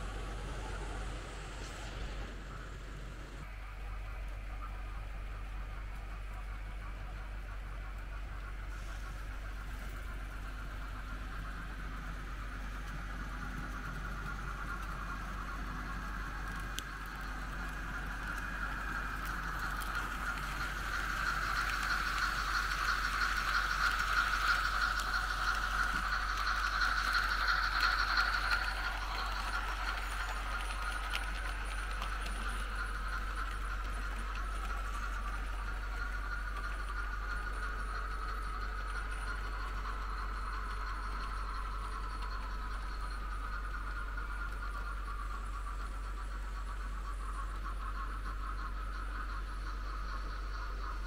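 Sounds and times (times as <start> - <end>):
model train motor whine: 0.0 - 51.0
wheels rattling on rails: 0.0 - 51.0.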